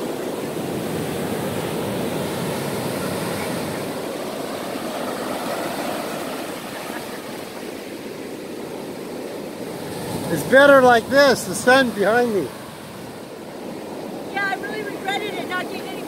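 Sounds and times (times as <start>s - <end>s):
ocean surf washing over sand: 0.0s - 16.0s.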